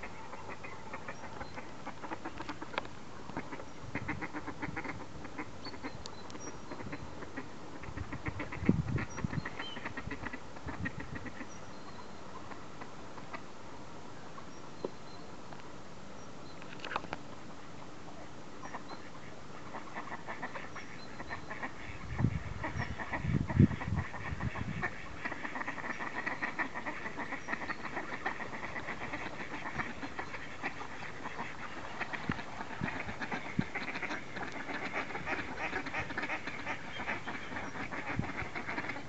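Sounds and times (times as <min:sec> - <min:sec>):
ducks quacking: 0:00.0 - 0:11.6, 0:18.6 - 0:39.0.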